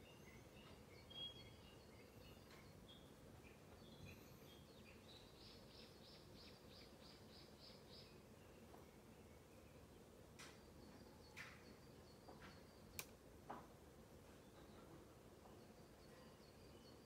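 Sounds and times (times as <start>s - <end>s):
faint birdsong chirps: 0.0s - 17.0s
low steady background hiss: 0.0s - 17.0s.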